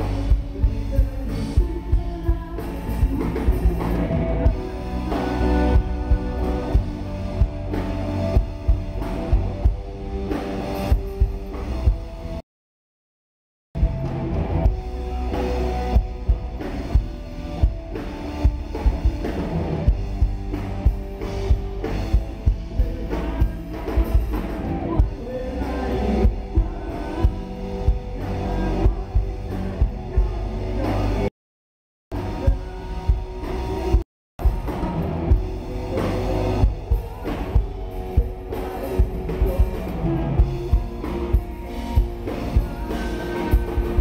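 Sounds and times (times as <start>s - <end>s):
bass guitar: 0.0s - 12.4s, 13.8s - 31.3s, 32.1s - 44.0s
drum kit steady beat: 0.0s - 12.4s, 13.8s - 31.3s, 32.1s - 44.0s
electric guitars: 0.0s - 12.4s, 13.8s - 31.3s, 32.2s - 44.0s.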